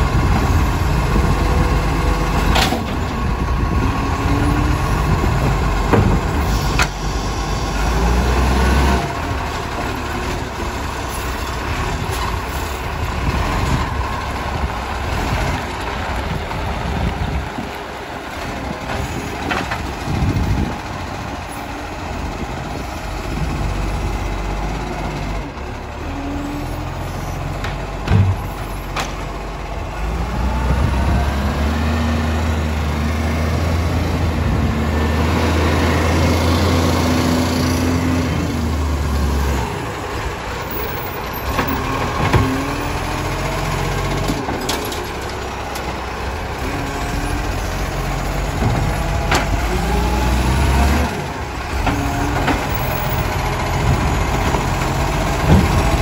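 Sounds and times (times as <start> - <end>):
garbage truck diesel engine: 0.0 - 56.0.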